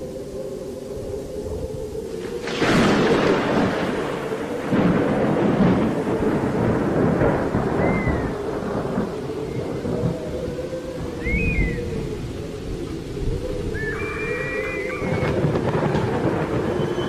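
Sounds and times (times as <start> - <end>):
rain-like hiss: 0.0 - 17.0
thunder crashing: 2.2 - 12.4, 13.2 - 17.0.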